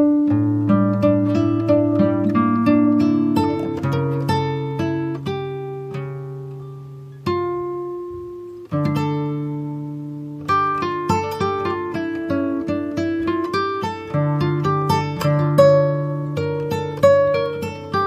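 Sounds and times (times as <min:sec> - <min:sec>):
plucked acoustic guitar: 0:00.0 - 0:18.0.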